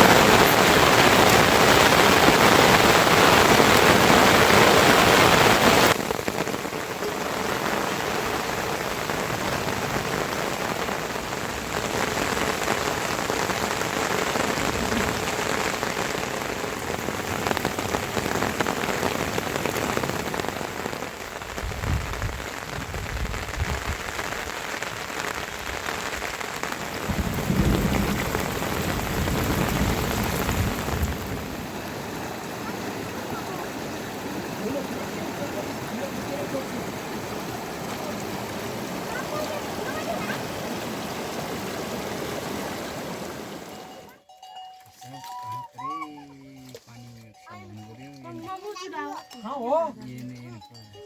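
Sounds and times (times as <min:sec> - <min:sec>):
steady rain falling: 0:00.0 - 0:44.2.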